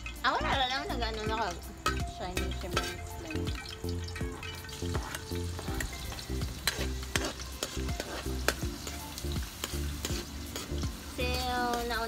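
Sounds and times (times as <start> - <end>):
garlic sizzling in oil: 0.0 - 12.0
metal spatula scraping wok: 0.0 - 12.0
spatula clacking against pan: 1.1 - 10.9.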